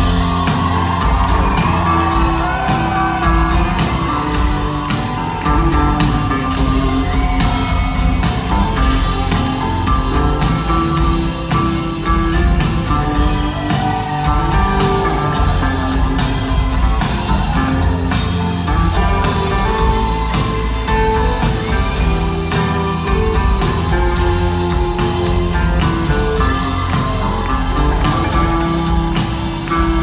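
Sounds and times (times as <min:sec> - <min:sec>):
drum kit: 0:00.0 - 0:30.0
live rock band playing: 0:00.0 - 0:30.0.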